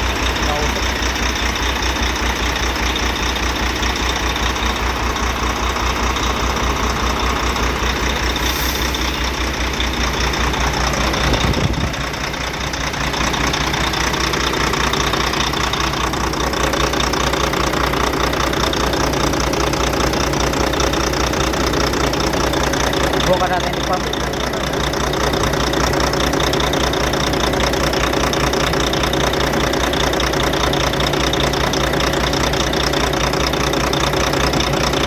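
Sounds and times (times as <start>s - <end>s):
diesel engine idling with misfire: 0.0s - 35.0s.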